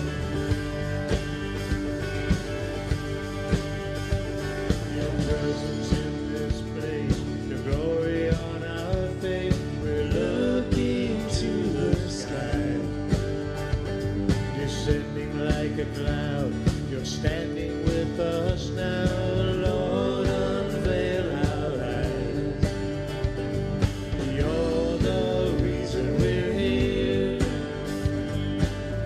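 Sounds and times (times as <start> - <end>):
live worship band playing: 0.0 - 29.0
steady drum beat: 0.0 - 29.0.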